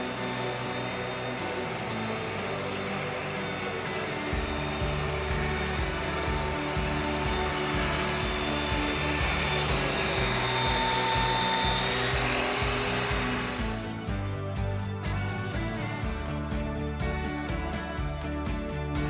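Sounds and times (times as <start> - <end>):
electric hand tool whining: 0.0 - 17.9
background music with bass line: 0.0 - 19.0.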